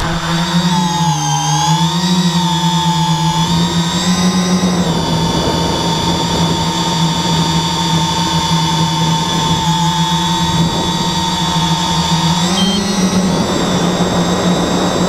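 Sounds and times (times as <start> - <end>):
model aircraft motor and propellers: 0.0 - 15.0.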